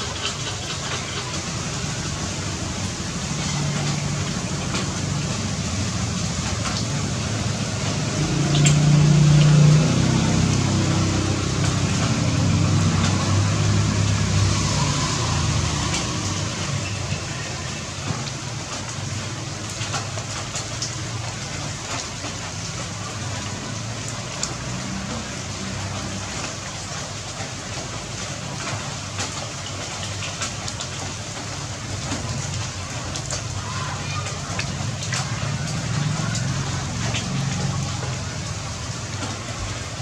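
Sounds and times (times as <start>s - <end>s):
rain pattering: 0.0s - 40.0s.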